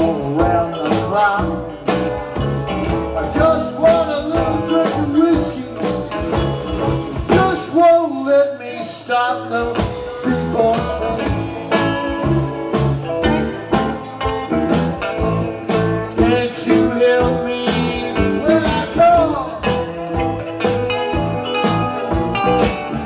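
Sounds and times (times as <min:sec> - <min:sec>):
band playing blues: 0:00.0 - 0:23.0
blues guitar: 0:00.0 - 0:23.0.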